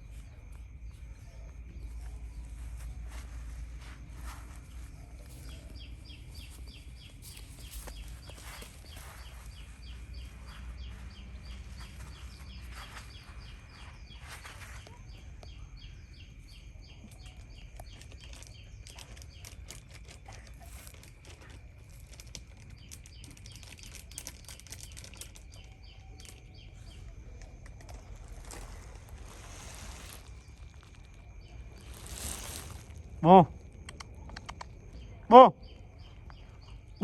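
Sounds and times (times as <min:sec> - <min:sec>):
small bird chirping: 0:00.0 - 0:37.0.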